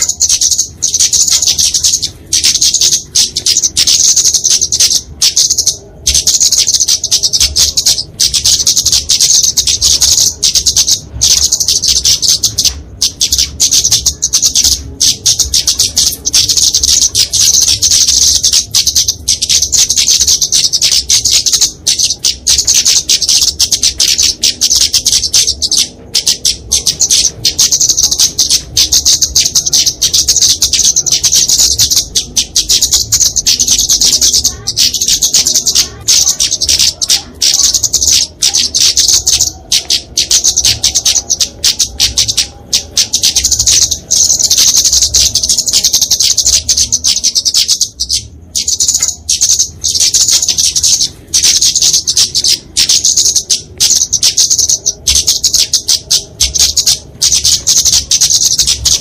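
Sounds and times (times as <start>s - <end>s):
bird chattering calls: 0.0s - 59.0s.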